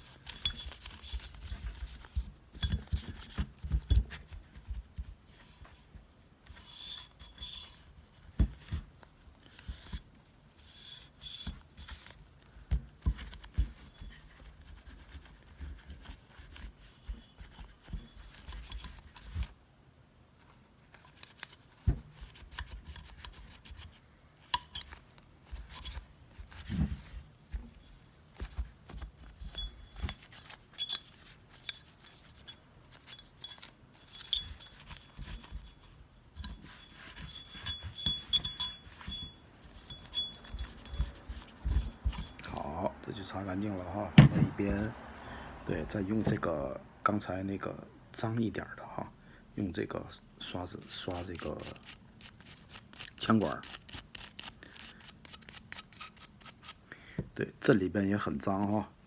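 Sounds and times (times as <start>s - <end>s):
rustling and scraping: 0.0s - 19.6s, 20.3s - 47.7s, 50.4s - 57.4s.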